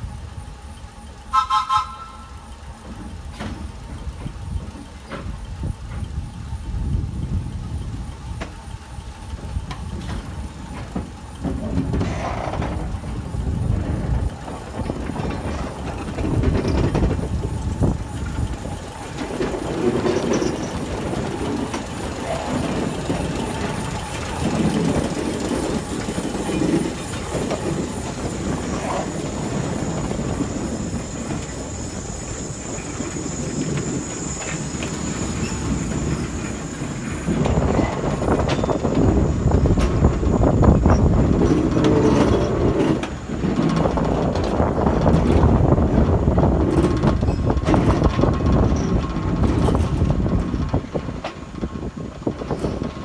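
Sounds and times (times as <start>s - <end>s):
steel wheels clunking over rail joints: 0.0s - 53.0s.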